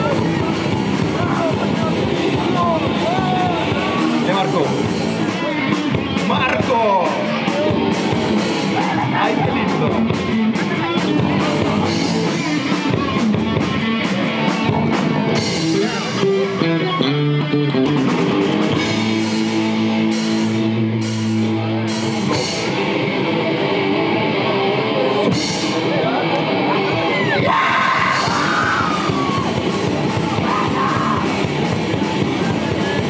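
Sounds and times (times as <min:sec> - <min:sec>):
bass guitar: 0:00.0 - 0:33.0
electric guitar: 0:00.0 - 0:33.0.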